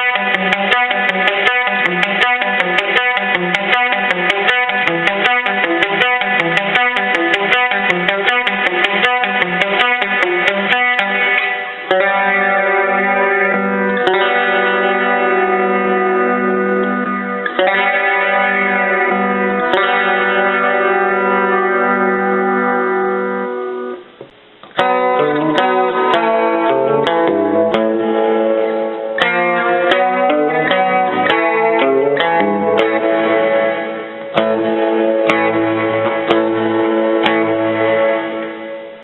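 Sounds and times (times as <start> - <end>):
clean electric guitar: 0.0 - 39.0.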